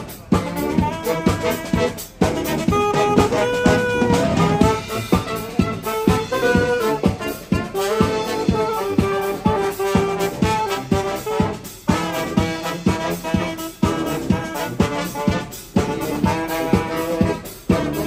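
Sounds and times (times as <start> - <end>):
saxophone: 0.0 - 18.0
steady drum beat: 0.0 - 18.0
trombones holding notes: 0.0 - 18.0.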